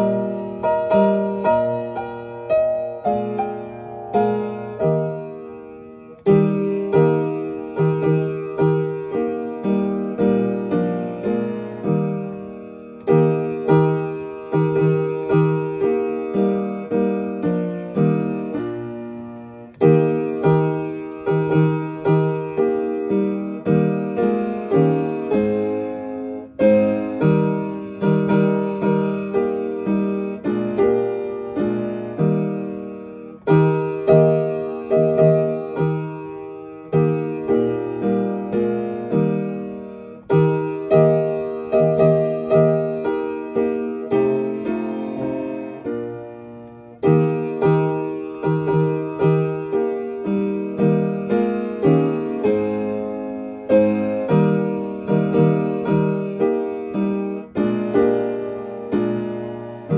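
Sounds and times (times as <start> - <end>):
solo piano chords: 0.0 - 59.9.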